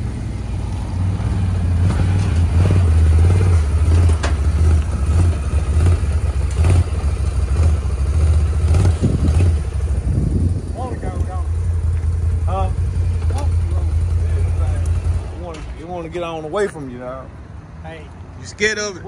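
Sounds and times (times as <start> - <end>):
atv engine revving: 0.0 - 15.7.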